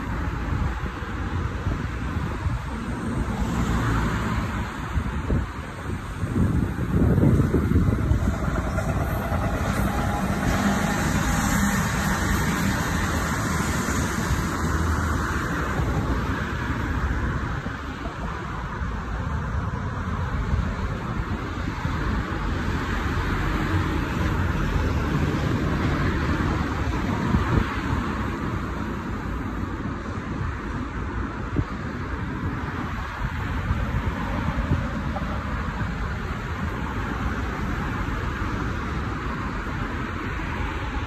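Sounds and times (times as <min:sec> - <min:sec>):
city road traffic: 0:00.0 - 0:41.0.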